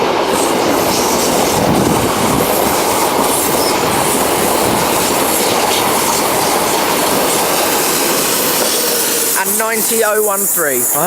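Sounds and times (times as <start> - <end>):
train rolling past: 0.0 - 11.0.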